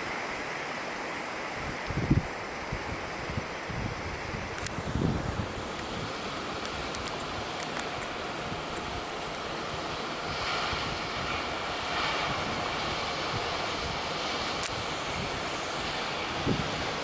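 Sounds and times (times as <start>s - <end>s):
waves washing: 0.0s - 17.0s
wind buffeting microphone: 1.5s - 17.0s.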